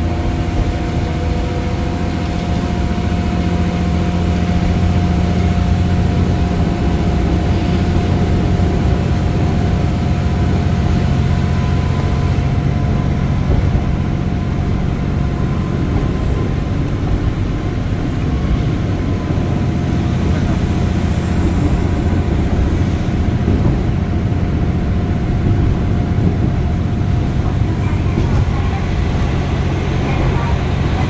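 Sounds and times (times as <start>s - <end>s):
train engine drone: 0.0s - 31.0s.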